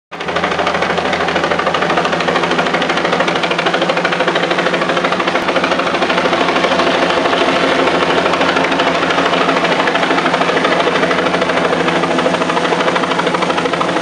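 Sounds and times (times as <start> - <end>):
helicopter engine running: 0.1 - 14.0
helicopter rotor chop: 0.1 - 14.0.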